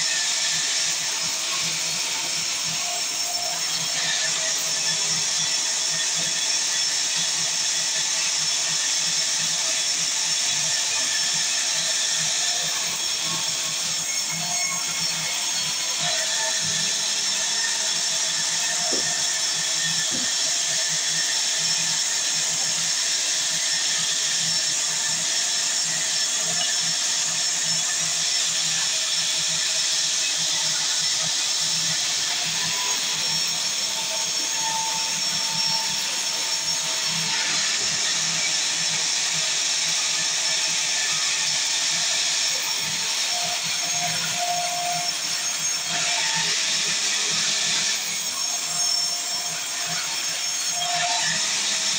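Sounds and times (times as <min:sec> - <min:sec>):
sawmill saw cutting timber: 0:00.0 - 0:51.9.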